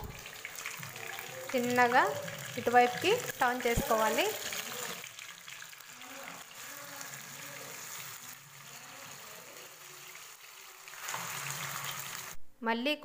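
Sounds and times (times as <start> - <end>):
chicken sizzling in oil: 0.0 - 12.4.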